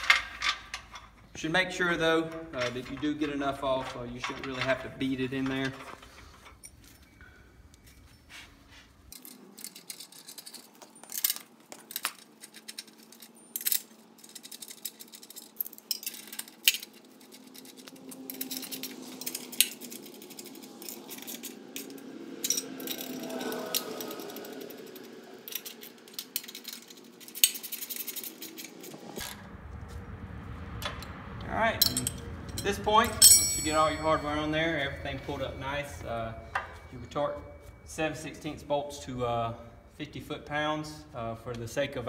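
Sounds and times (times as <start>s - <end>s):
metal bolts clinking on metal: 0.0s - 7.2s, 9.1s - 24.8s, 25.4s - 29.2s, 31.8s - 39.0s
metal scraping: 0.0s - 40.0s.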